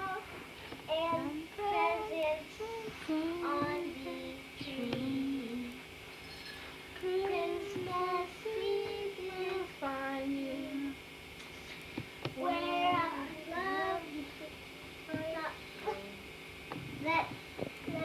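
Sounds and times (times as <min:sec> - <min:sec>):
girl singing unaccompanied: 0:00.0 - 0:05.8, 0:07.0 - 0:11.0, 0:12.3 - 0:16.2, 0:17.0 - 0:18.0.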